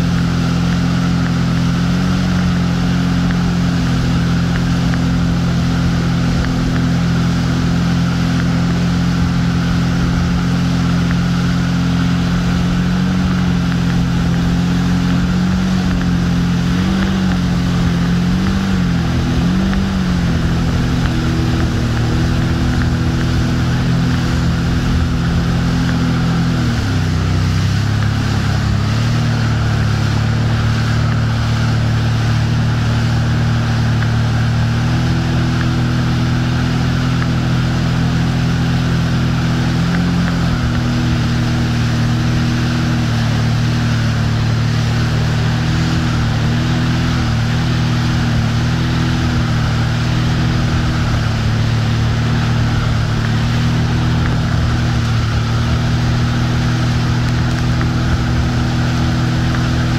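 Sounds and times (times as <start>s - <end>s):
churning wake water rushing: 0.0s - 59.9s
motorboat engine droning: 0.0s - 59.9s.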